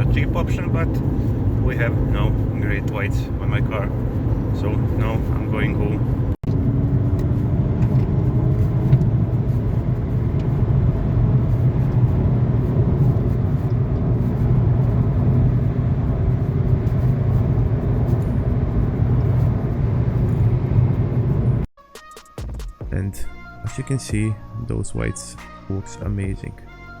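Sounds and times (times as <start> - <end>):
car engine rumble: 0.0 - 21.7
road noise: 0.0 - 21.7.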